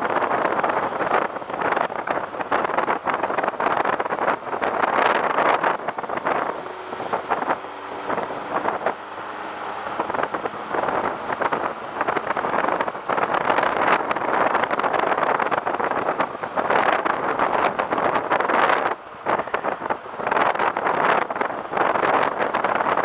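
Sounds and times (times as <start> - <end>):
wind rushing over microphone: 0.0 - 23.0
motorcycle engine: 0.7 - 22.2.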